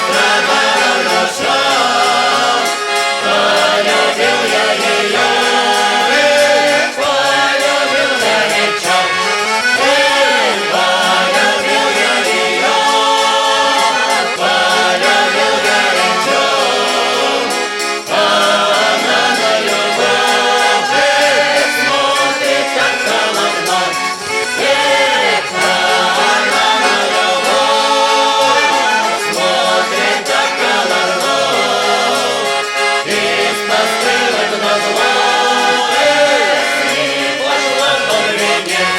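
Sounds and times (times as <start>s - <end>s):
accordion: 0.0s - 38.9s
choir singing folk song: 0.0s - 38.9s.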